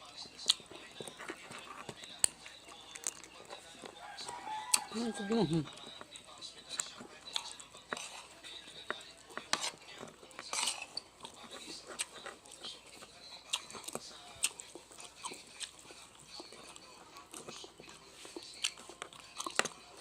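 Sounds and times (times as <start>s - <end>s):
chewing and gnawing bones: 0.0s - 20.0s.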